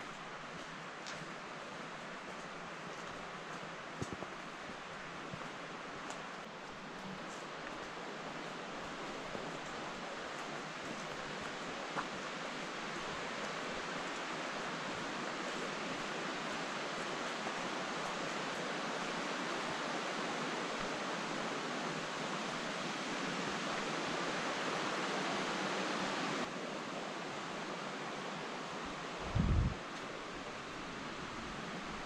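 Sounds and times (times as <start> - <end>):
river flowing: 0.0 - 32.0.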